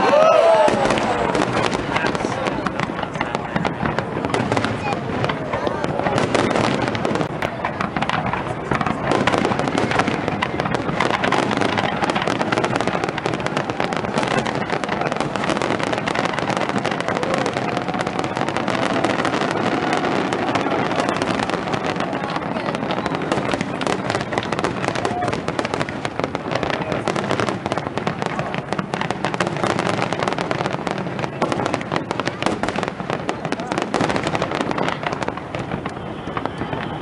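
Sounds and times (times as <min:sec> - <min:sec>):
fireworks popping and crackling: 0:00.0 - 0:37.0.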